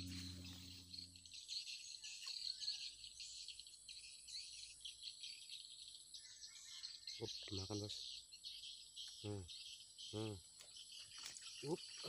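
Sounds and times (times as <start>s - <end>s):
insects chirring: 0.0s - 6.3s, 7.3s - 12.0s.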